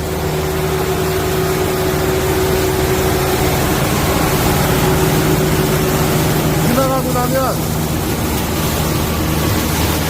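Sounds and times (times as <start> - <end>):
engine drone: 0.0 - 10.0.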